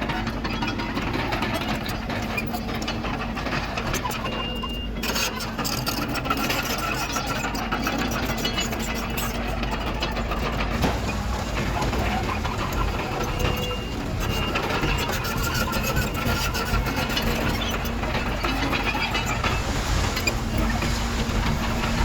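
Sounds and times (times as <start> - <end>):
diesel earthmoving machinery running: 0.0 - 22.0
rattling and clanking: 0.0 - 22.0.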